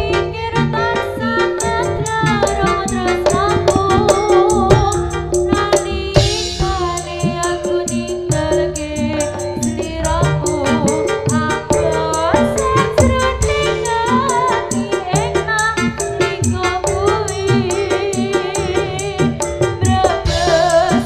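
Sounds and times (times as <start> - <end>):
wavering lead melody: 0.0 - 21.0
hand-drum strokes: 1.6 - 21.0.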